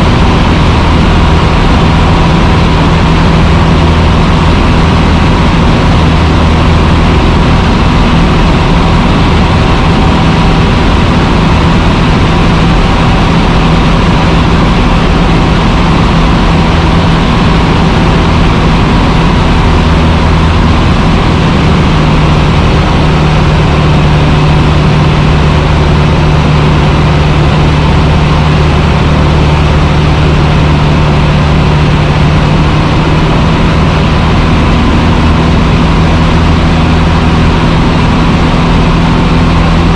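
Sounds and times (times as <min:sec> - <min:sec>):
airplane engine droning in flight: 0:00.0 - 0:39.9.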